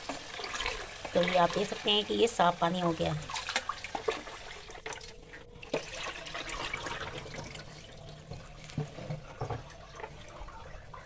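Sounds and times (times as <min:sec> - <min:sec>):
water splashing into steel sink: 0:00.0 - 0:01.9, 0:03.2 - 0:10.4.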